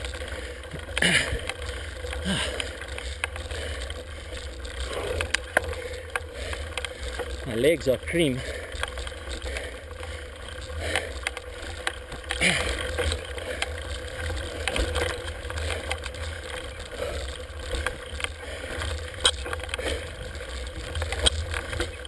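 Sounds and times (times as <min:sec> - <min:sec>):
bike clicks and rattles: 0:00.0 - 0:22.0
bike rolling over rock rumble: 0:00.0 - 0:22.0.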